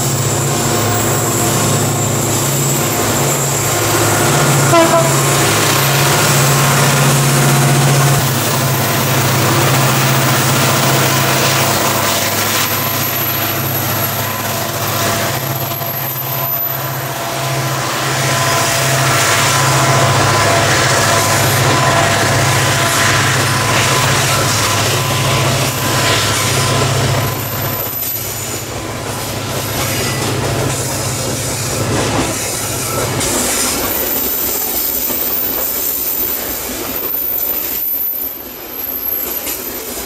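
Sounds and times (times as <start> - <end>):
locomotive engine drone: 0.0 - 40.0
train wagons rumbling on rails: 0.0 - 40.0.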